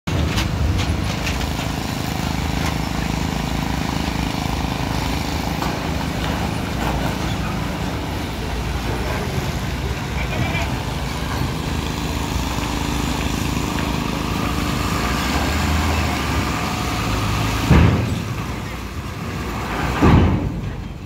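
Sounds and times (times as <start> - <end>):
diesel truck engine running: 0.1 - 21.0.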